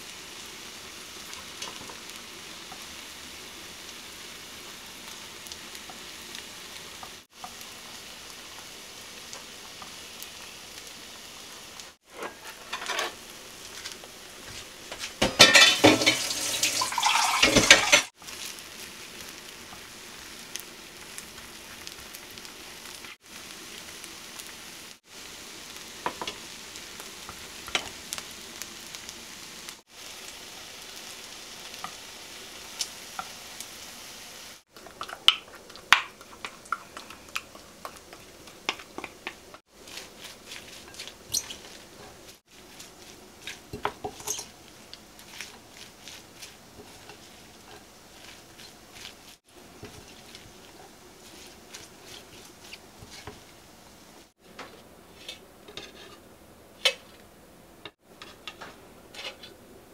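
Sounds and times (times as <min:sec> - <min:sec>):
meat sizzling in oil: 0:00.0 - 0:54.4.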